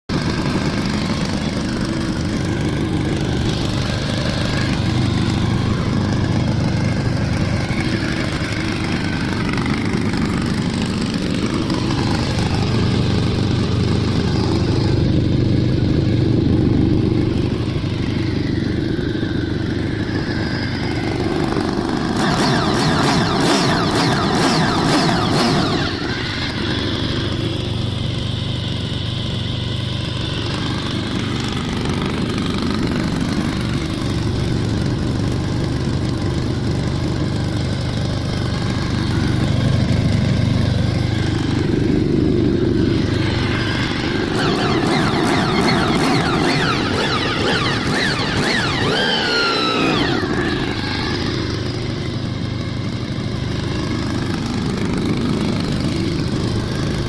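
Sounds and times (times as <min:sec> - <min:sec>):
motorcycle engine running: 0:00.1 - 0:57.0.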